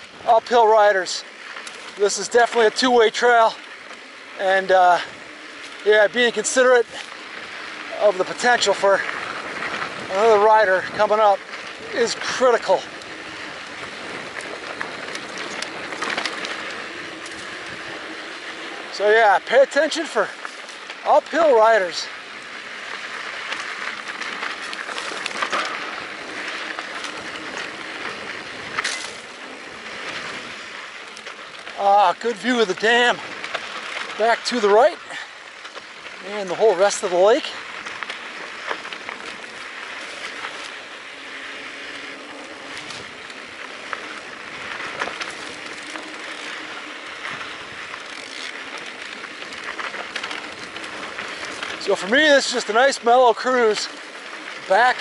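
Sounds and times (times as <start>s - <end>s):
bike frame rattling and clicking: 0.0s - 55.0s
bike tyres crunching on gravel: 0.0s - 55.0s.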